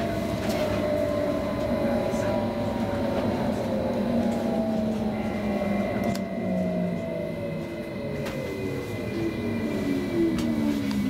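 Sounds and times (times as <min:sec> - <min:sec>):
electric train motor whine: 0:00.0 - 0:11.0
train wheels rumbling on track: 0:00.0 - 0:11.0.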